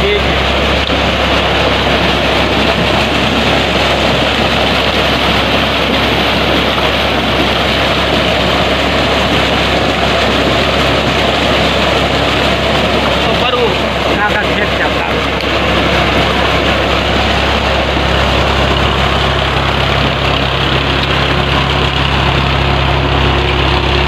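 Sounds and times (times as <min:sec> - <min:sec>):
pump engine running: 0:00.0 - 0:24.0
water gushing into tank: 0:00.0 - 0:24.0.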